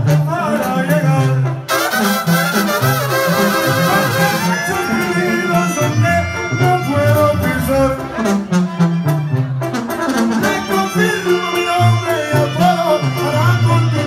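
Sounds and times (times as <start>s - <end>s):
brass band playing: 0.0s - 14.0s
sousaphone bass line: 0.0s - 14.0s.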